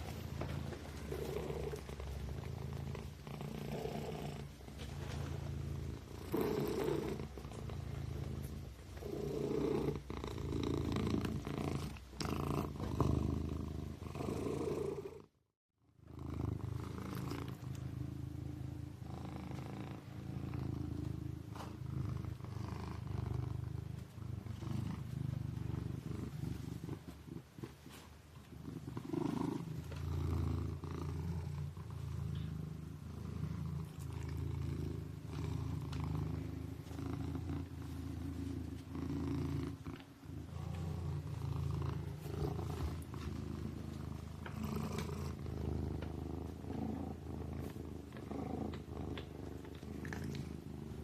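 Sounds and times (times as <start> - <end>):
kitten purring: 0.0 - 15.4, 16.0 - 51.0.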